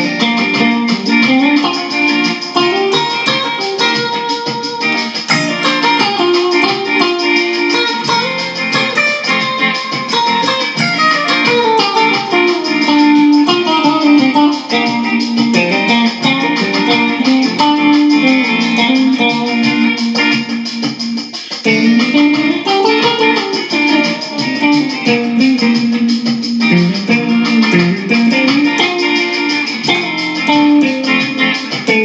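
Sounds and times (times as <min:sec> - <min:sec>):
guitar playing quick single notes: 0:00.0 - 0:32.0.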